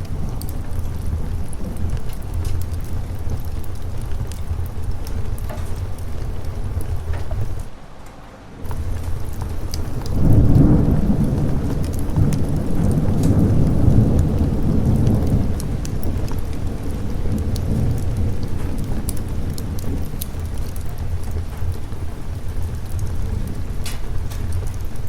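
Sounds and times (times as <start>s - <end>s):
rolling thunder: 0.0s - 7.7s, 8.6s - 25.0s
sharp crackles: 0.0s - 7.7s, 8.6s - 25.0s
steady rain: 0.0s - 25.0s.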